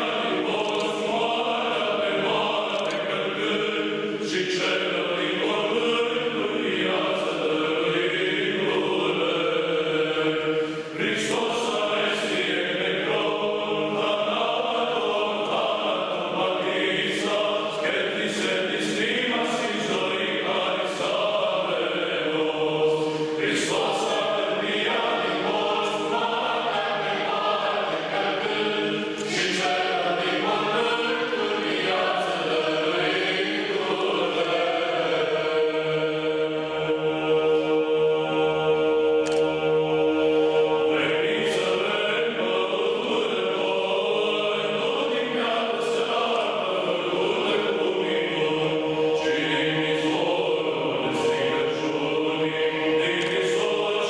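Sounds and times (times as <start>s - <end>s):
choir chanting a hymn: 0.0s - 54.0s.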